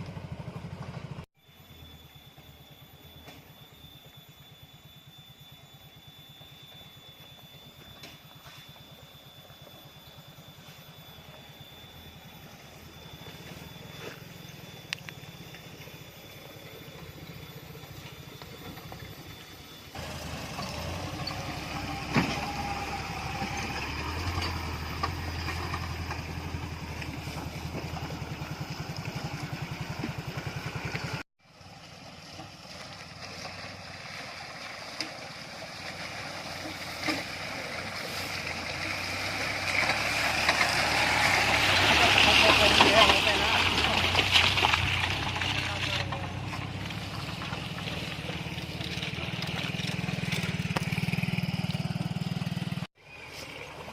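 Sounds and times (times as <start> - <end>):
off-road vehicle engine running: 0.0 - 53.9.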